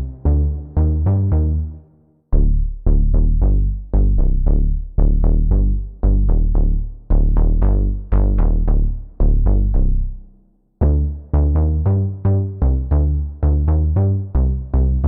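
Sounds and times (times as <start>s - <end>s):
synth plucked bass notes: 0.0s - 15.0s.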